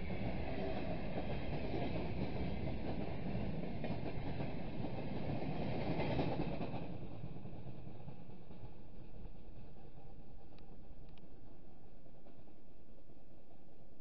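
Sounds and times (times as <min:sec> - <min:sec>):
freight train wheels clattering: 0:00.0 - 0:11.6.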